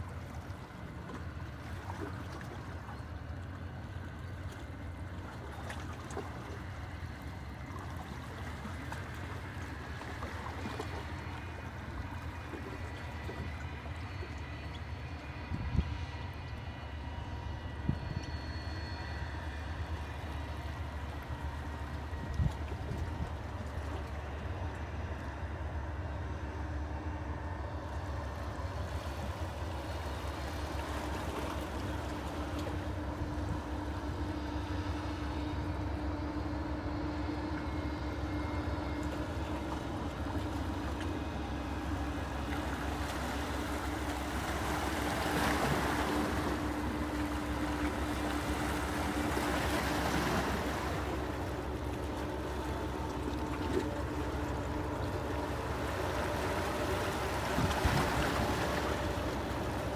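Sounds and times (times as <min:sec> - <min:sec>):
faint hum: 0:00.0 - 0:59.9
ship low rumble: 0:00.0 - 0:59.9.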